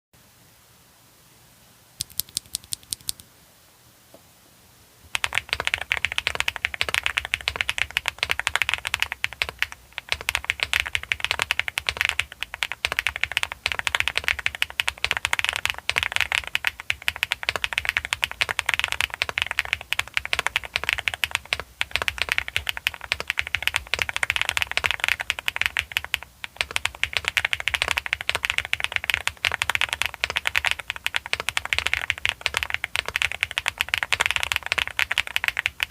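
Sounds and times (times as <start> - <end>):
mechanical keyboard typing: 2.0 - 3.2, 5.1 - 35.9.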